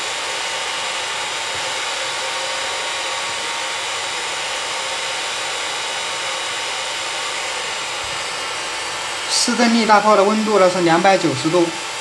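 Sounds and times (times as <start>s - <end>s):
hot-air gun hissing: 0.0s - 12.0s.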